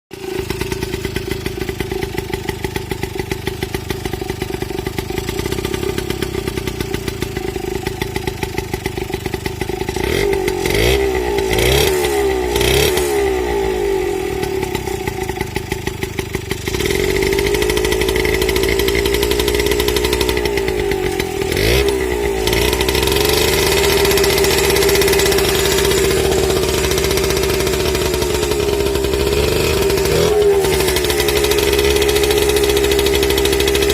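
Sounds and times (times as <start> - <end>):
two-stroke engine revving: 0.1 - 33.9.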